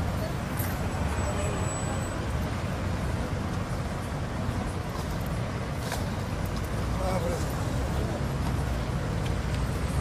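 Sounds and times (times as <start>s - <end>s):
passing traffic rumble: 0.0s - 10.0s.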